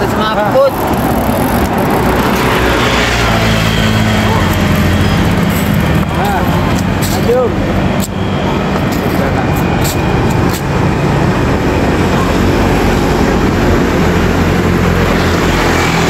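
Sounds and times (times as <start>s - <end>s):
traffic rumble: 0.0s - 16.0s
wind on microphone: 0.0s - 16.0s.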